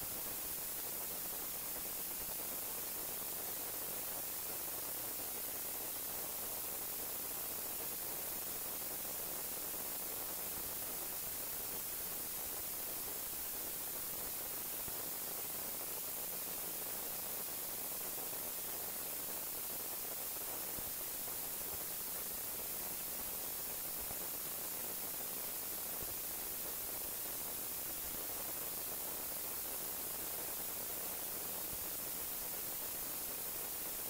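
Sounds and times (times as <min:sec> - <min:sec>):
steady static hiss: 0:00.0 - 0:34.0.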